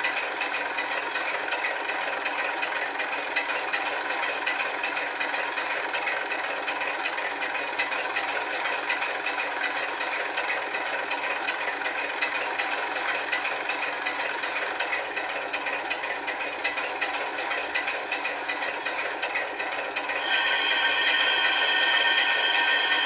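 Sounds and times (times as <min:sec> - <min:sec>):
diesel engine idling through small speaker: 0:00.0 - 0:23.0.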